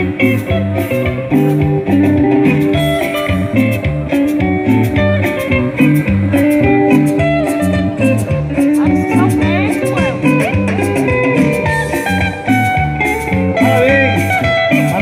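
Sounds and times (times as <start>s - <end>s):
guitar music with bass and beat: 0.0s - 15.0s.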